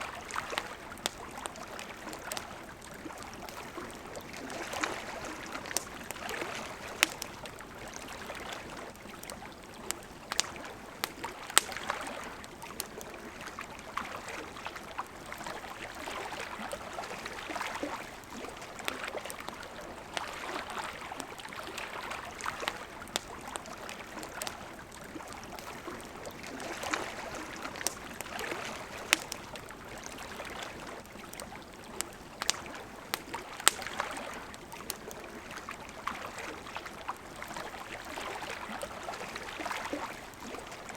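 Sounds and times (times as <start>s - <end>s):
campfire crackling and popping: 0.0s - 40.9s
river water running: 0.0s - 40.9s.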